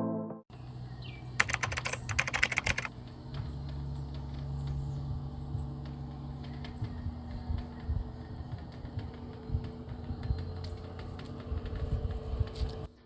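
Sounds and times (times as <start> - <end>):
low hum: 0.0 - 13.0
sharp clicks: 1.4 - 12.6.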